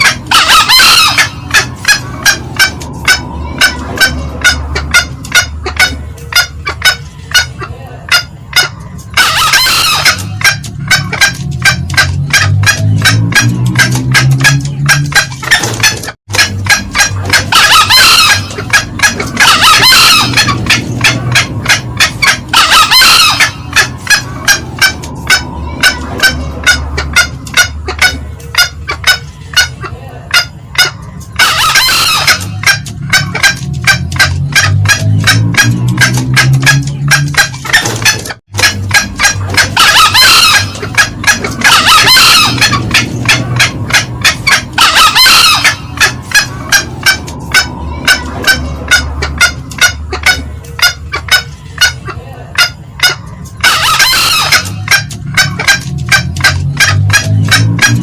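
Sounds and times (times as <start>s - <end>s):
junglefowl cackling: 0.0s - 58.0s
loud junglefowl call: 0.0s - 58.0s.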